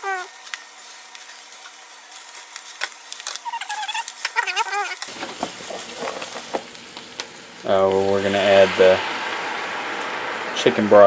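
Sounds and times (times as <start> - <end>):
greens sizzling in oil: 0.0 - 11.0.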